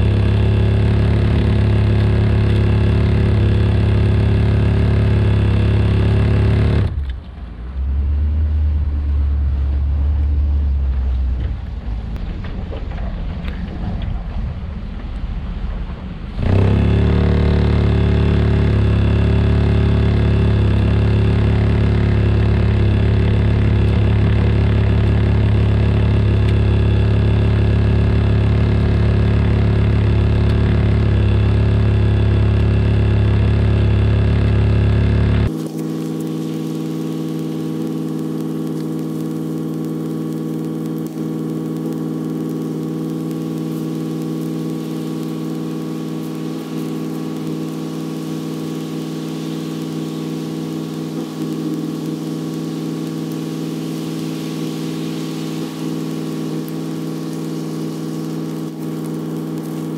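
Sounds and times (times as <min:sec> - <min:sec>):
truck engine humming: 0:00.0 - 0:59.9.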